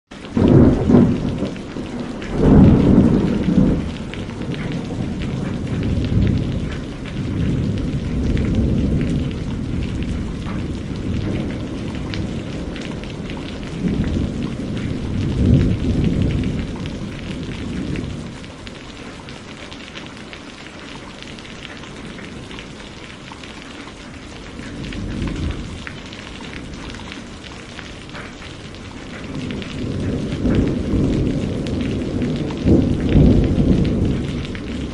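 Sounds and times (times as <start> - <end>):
steady rain: 0.1 - 34.9
rolling thunder: 0.2 - 19.0, 24.1 - 34.9.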